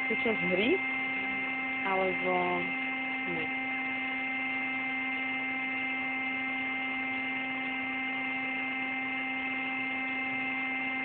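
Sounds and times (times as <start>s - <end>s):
electric air pump humming: 0.0s - 11.0s.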